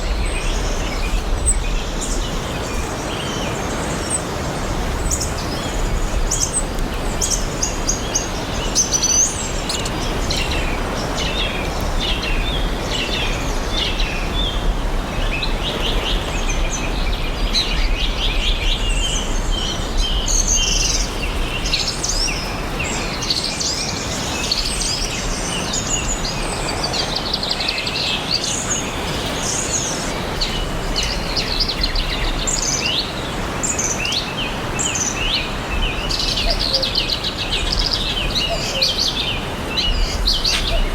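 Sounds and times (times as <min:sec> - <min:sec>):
outdoor background hiss: 0:00.0 - 0:40.9
small birds chirping and singing: 0:00.0 - 0:40.9.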